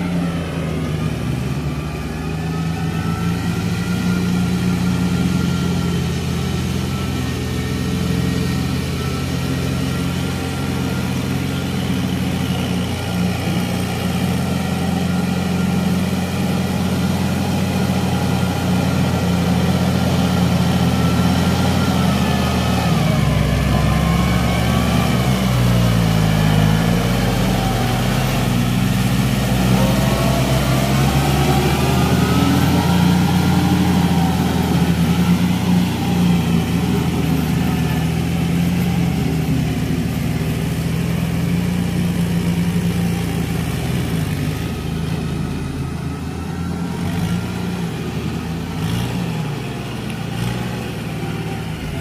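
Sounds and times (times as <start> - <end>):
tractor diesel engines running: 0.0 - 52.0.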